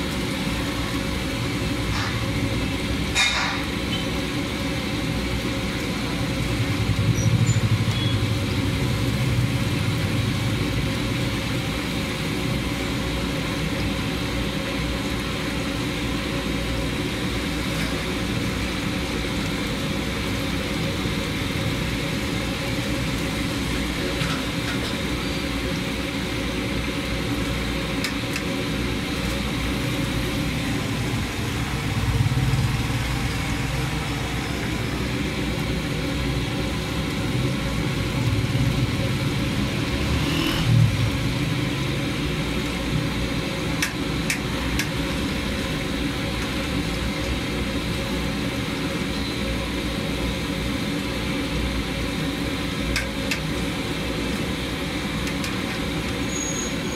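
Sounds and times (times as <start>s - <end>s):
chicken deep-frying in oil: 0.0s - 56.9s
engine-like hum: 0.0s - 56.9s.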